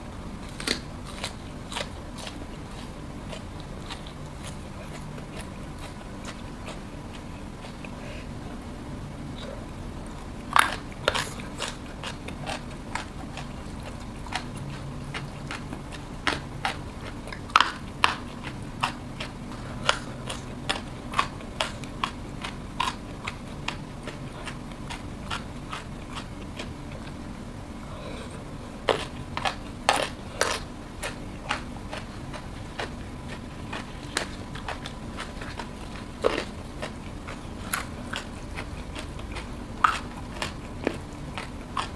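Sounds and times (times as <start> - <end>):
faint low hum: 0.0 - 41.9
person chewing crunchy vegetables: 0.0 - 41.9.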